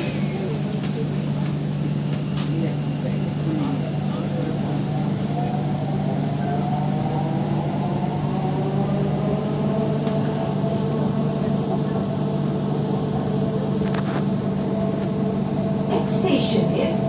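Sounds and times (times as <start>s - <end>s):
carriage hum and rumble: 0.0s - 17.0s
train traction motor whine: 0.0s - 17.0s.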